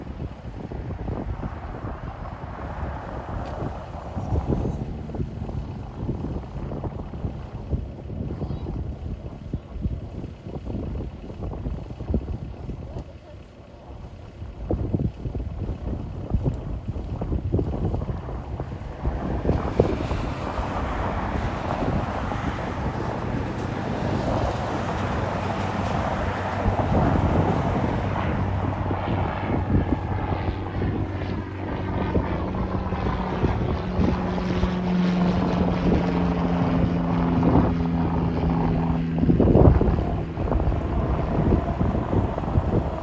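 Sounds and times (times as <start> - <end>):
propeller drone: 0.0 - 43.0
wind buffeting microphone: 0.0 - 43.0.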